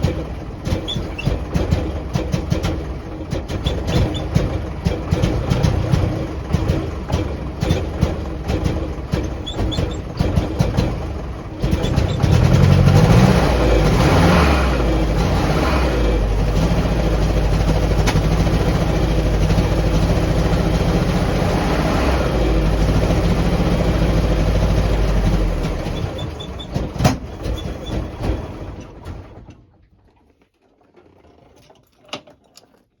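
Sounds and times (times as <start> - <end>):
engine revving and running: 0.0 - 29.3.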